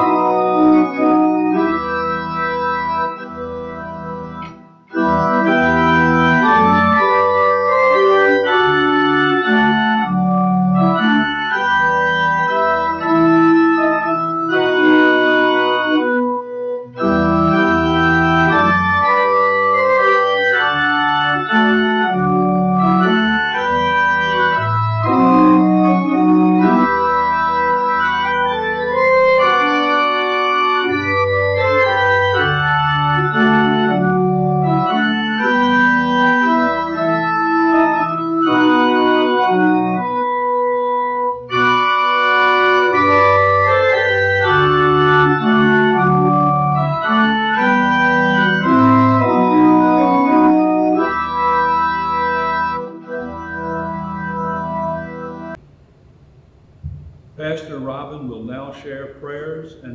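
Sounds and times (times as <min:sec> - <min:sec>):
pipe organ playing chords: 0:00.0 - 0:55.6, 0:56.7 - 0:59.9.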